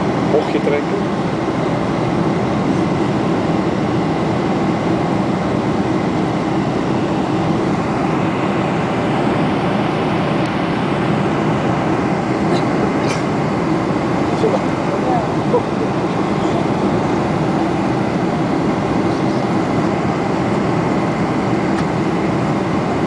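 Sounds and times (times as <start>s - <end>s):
cabin airflow rushing: 0.0s - 23.0s
low engine drone: 0.0s - 23.0s.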